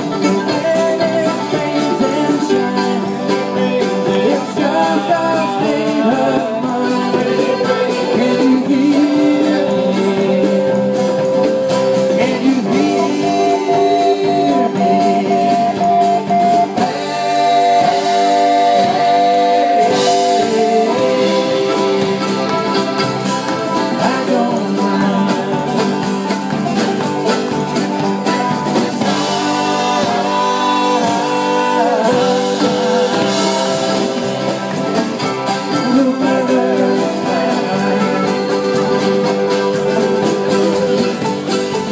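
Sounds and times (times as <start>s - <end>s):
men singing together: 0.0s - 27.1s, 28.6s - 41.9s
accordion: 0.0s - 41.9s
strummed acoustic guitars: 0.0s - 41.9s.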